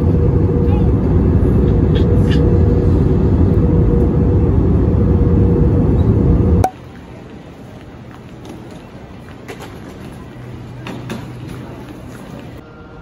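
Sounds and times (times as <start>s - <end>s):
airport terminal ambience: 0.0s - 13.0s
jet engines and airflow: 0.0s - 13.0s.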